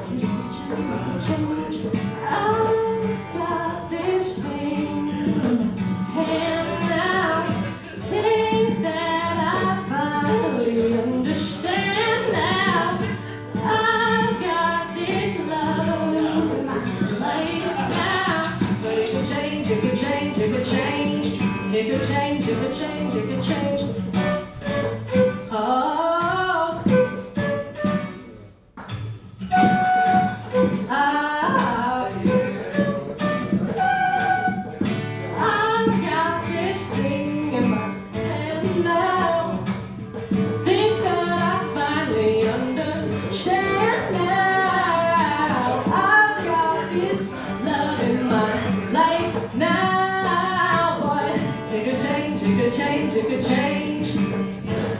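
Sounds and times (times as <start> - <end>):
woman singing pop song: 0.0 - 27.2, 30.6 - 32.8, 33.6 - 54.9
guitar: 0.0 - 54.9.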